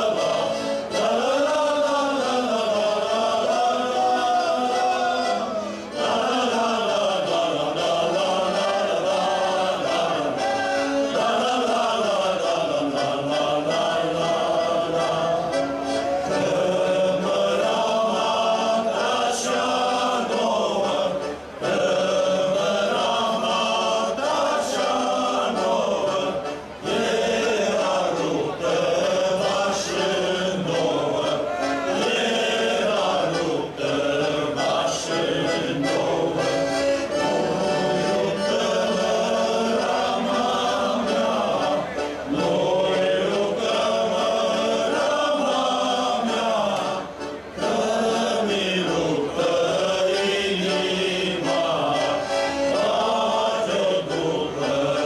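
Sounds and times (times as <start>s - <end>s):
group of voices singing: 0.0s - 55.0s.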